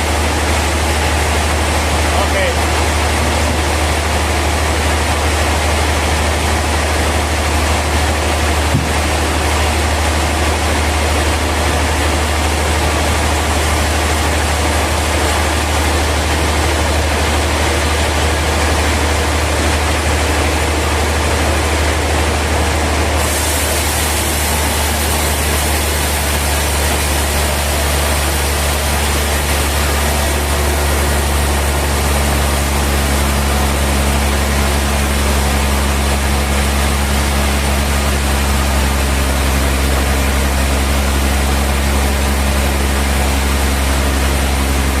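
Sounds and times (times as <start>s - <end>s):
dense machinery noise: 0.0s - 45.0s
heavy motor drone: 0.0s - 45.0s.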